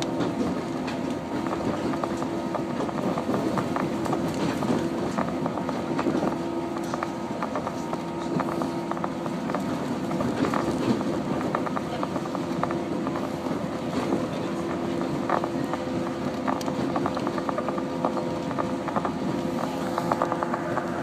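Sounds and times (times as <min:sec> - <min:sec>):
electric train running: 0:00.0 - 0:21.0
train rattles and clicks: 0:00.0 - 0:21.0.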